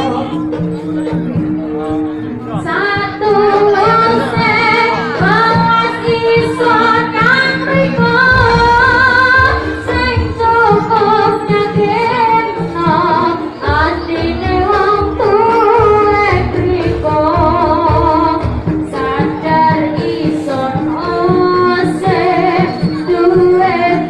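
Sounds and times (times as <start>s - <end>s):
live instrumental accompaniment: 0.0s - 24.0s
woman singing: 2.5s - 24.0s.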